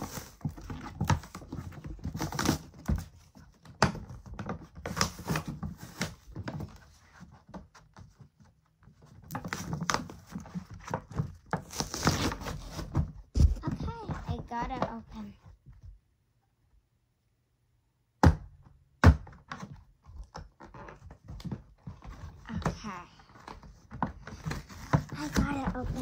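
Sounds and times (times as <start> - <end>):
cardboard and plastic packaging rustling: 0.0 - 15.9, 19.4 - 26.0.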